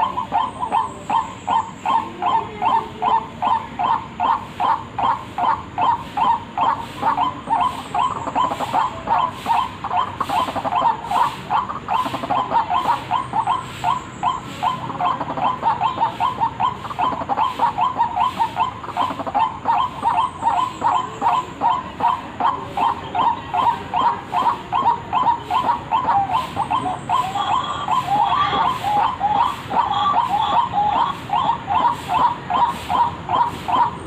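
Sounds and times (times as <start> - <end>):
bird calling rapid notes: 0.0 - 34.0.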